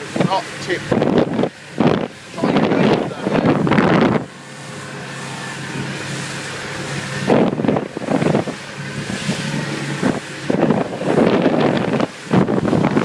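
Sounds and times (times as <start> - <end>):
boat motor humming: 0.0 - 13.0
wind buffeting microphone: 0.0 - 13.0.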